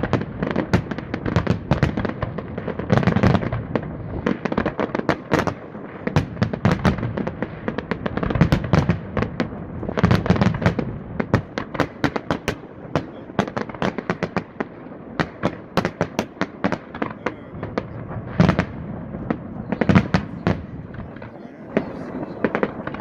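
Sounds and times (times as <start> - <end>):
firework bursts and crackles: 0.0 - 23.0
heavy firework booms: 0.0 - 23.0.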